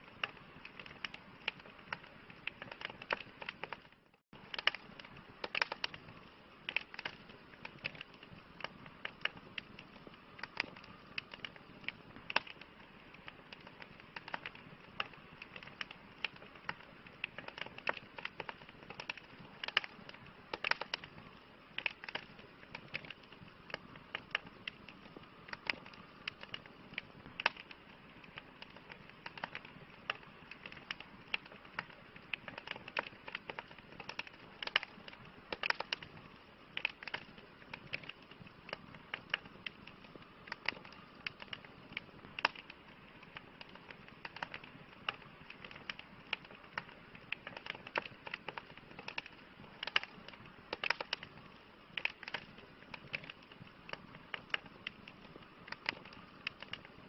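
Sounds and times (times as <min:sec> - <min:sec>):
campfire crackles and pops: 0:00.0 - 0:57.0
fire soft hiss: 0:00.0 - 0:57.0.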